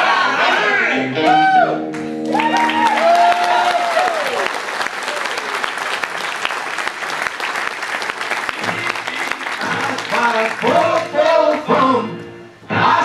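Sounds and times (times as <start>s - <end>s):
audience applauding: 1.3s - 11.7s.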